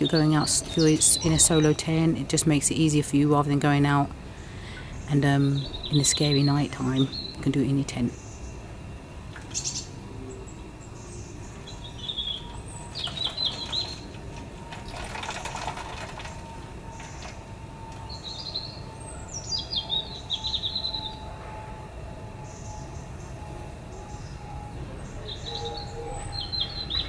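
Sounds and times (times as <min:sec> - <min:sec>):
songbirds chirping: 0:00.0 - 0:21.4, 0:22.4 - 0:27.0.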